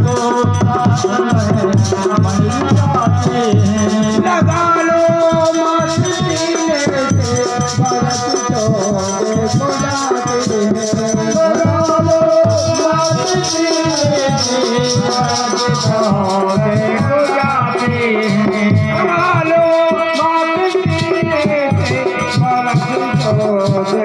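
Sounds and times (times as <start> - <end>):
dholak drum played by hand: 0.0 - 24.0
small hand percussion: 0.0 - 24.0.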